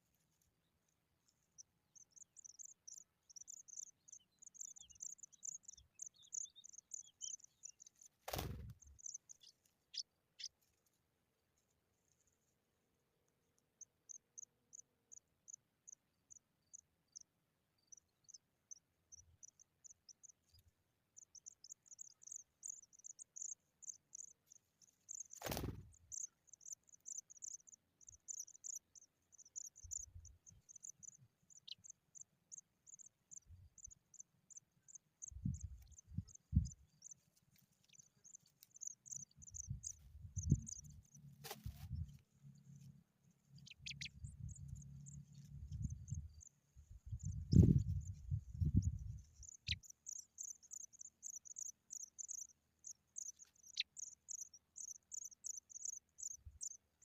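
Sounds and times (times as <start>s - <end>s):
nestlings high-pitched begging chirps: 1.2s - 10.6s, 13.8s - 57.0s.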